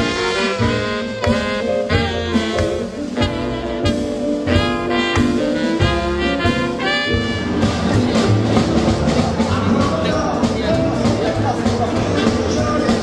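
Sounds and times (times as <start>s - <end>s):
swing jazz band playing: 0.0s - 13.0s.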